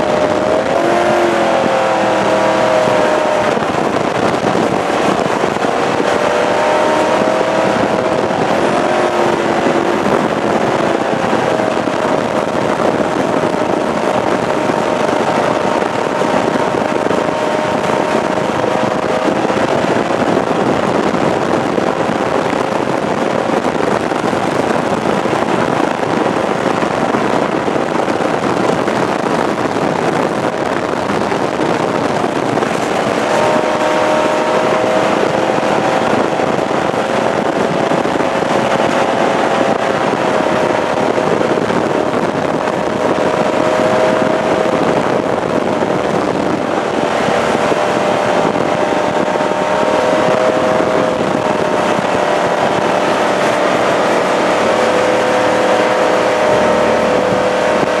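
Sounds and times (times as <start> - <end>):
boat engine: 0.0 - 58.0
rushing wind and water: 0.0 - 58.0.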